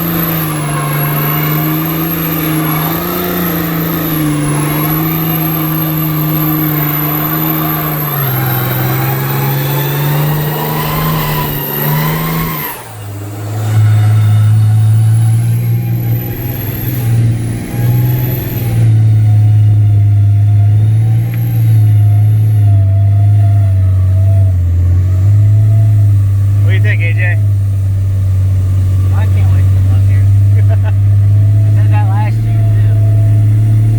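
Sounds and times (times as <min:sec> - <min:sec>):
truck engine drone from cab: 0:00.0 - 0:33.9.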